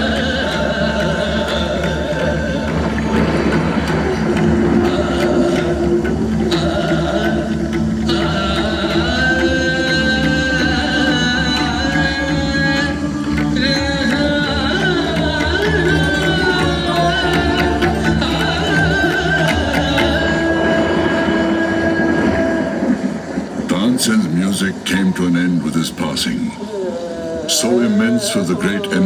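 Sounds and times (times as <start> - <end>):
person singing long bent notes: 0.0 - 29.0.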